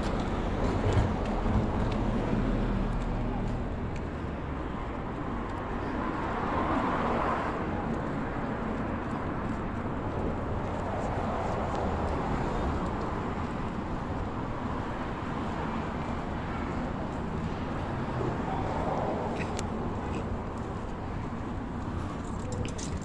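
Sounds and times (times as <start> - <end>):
urban traffic noise: 0.0 - 23.0.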